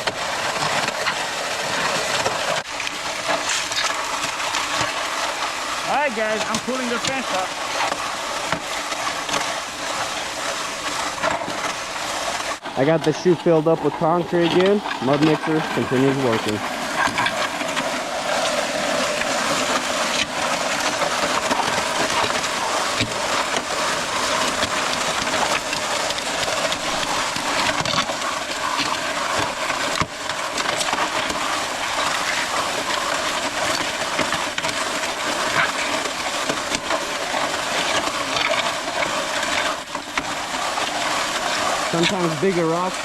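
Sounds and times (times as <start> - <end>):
concrete mixer churning: 0.0 - 43.0.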